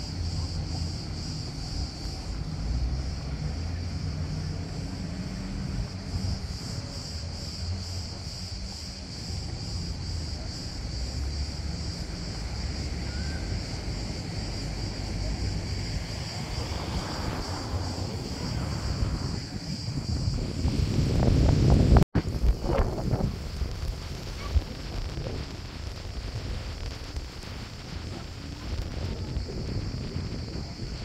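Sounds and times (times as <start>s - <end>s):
rushing noise: 0.0s - 31.0s
wind on microphone: 0.0s - 31.0s.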